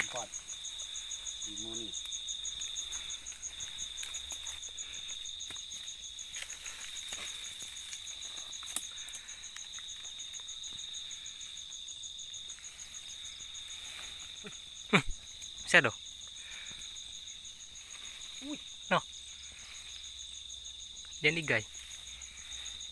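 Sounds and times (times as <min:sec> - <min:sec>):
rustling fronds: 0:00.0 - 0:20.8, 0:21.6 - 0:22.9
insect steady high trill: 0:00.0 - 0:22.9
rapidly pulsing insect call: 0:00.0 - 0:22.9.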